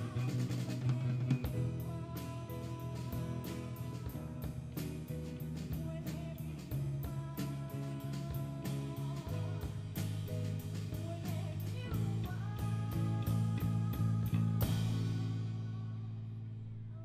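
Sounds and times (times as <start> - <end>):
steady drum beat: 0.0 - 15.8
bass: 0.0 - 17.0
guitar: 0.0 - 17.0.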